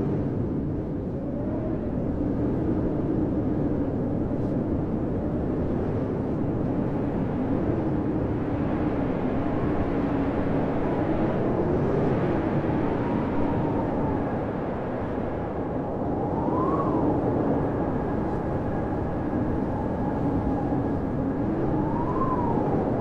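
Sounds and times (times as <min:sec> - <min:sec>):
blizzard wind blowing: 0:00.0 - 0:23.0.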